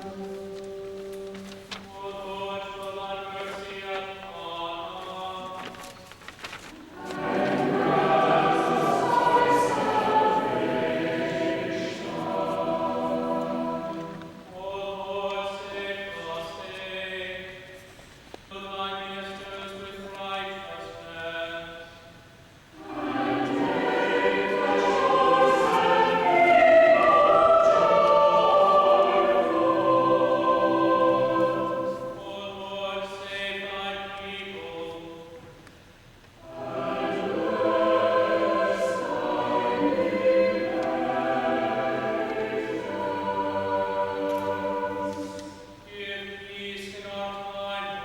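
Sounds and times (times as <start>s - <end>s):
church choir singing in harmony: 0.0s - 17.9s, 18.5s - 35.7s, 36.4s - 48.0s.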